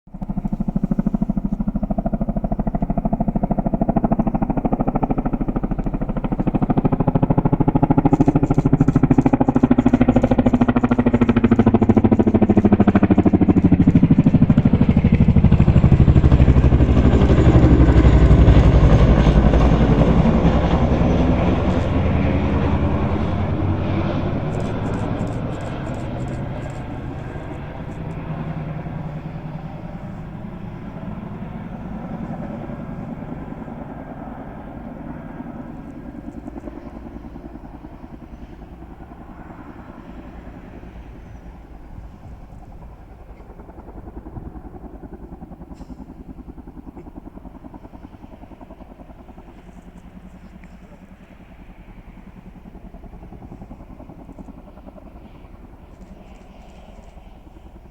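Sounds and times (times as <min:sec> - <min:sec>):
helicopter rotor drone: 0:00.1 - 0:57.9.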